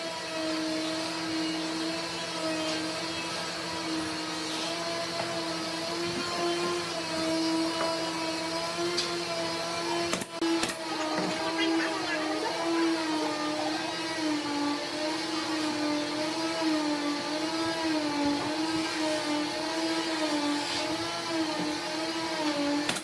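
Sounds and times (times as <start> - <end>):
power tool motor whirring: 0.0 - 23.0.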